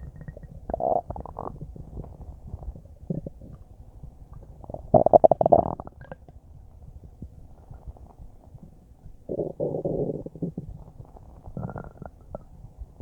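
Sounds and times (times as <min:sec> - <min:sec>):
stomach gurgling: 0:00.0 - 0:13.0.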